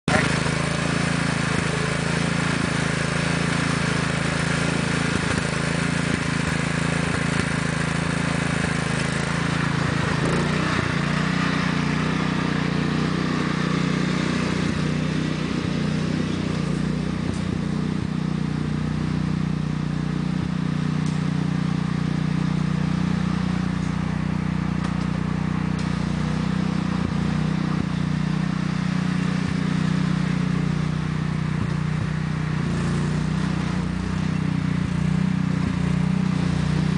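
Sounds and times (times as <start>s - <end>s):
lawn tractor engine running: 0.0s - 36.9s.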